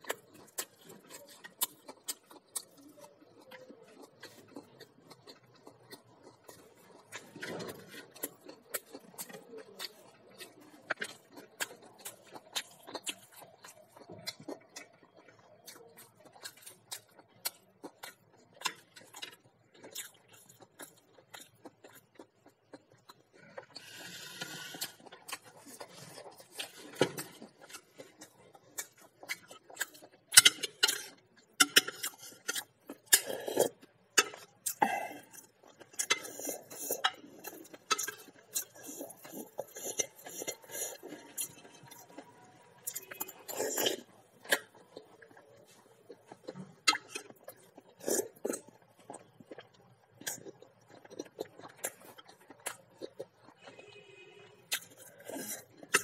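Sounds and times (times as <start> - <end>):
chewing: 0.0 - 56.0.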